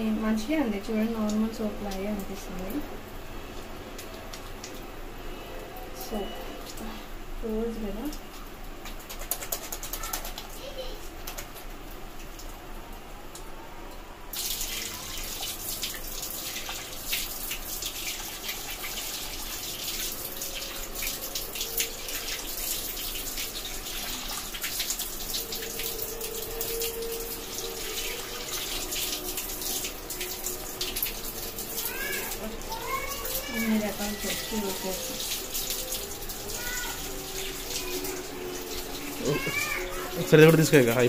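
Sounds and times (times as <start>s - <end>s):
tap water running into sink: 0.0s - 2.9s, 5.9s - 12.5s, 14.3s - 41.0s.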